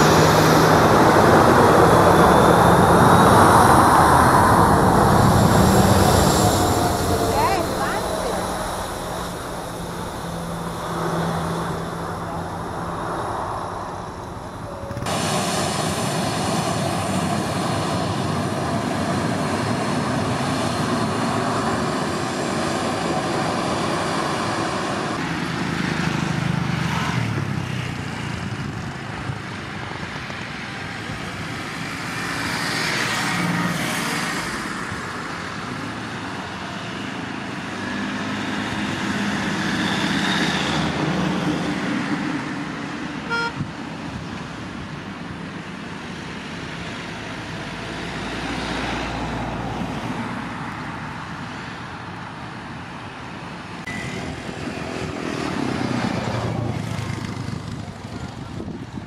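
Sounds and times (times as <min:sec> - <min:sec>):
jet engine roar with whine: 0:00.0 - 0:59.0.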